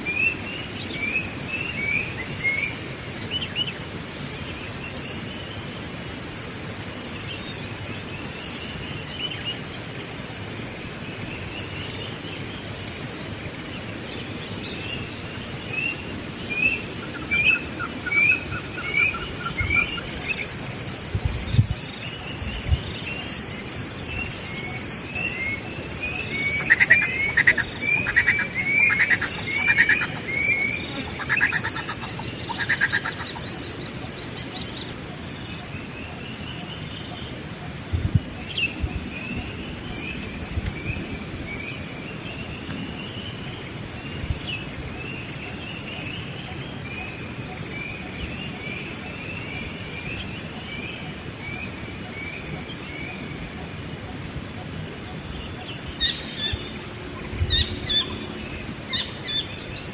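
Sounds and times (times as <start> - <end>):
songbirds chirping: 10.9 - 59.9.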